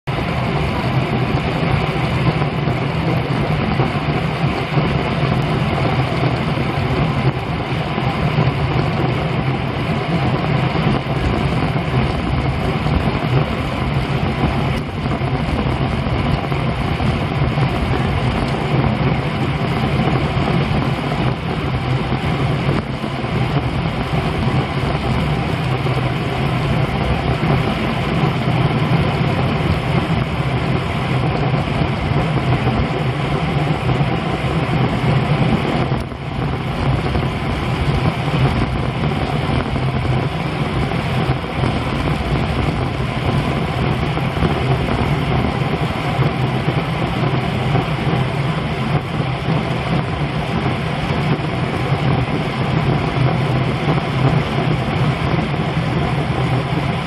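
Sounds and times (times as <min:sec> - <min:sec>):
bicycle tyre road hum: 0:00.0 - 0:57.0
wind buffeting microphone: 0:00.1 - 0:57.0.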